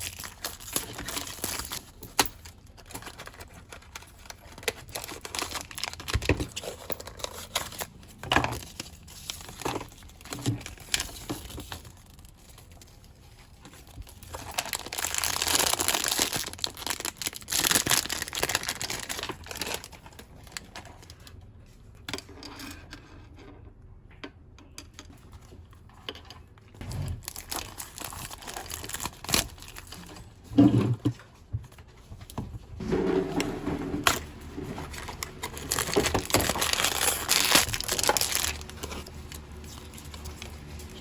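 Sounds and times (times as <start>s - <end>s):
crinkling and rustling: 0.0s - 41.0s.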